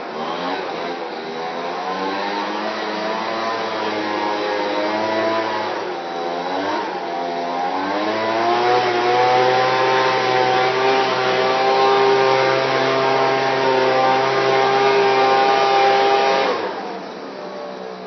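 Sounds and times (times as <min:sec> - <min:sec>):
blow dryer motor whine: 0:00.0 - 0:18.0.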